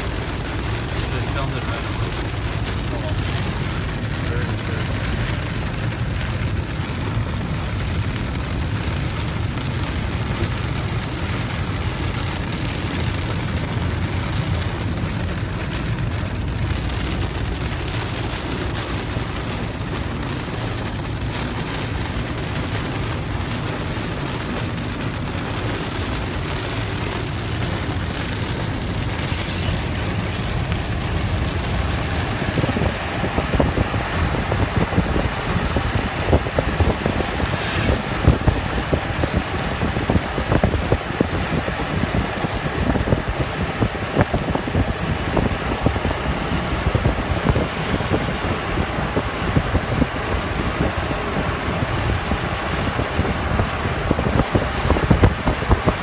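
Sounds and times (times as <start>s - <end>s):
heavy rain on car roof: 0.0s - 56.0s
tyres rumbling on wet road: 0.0s - 56.0s.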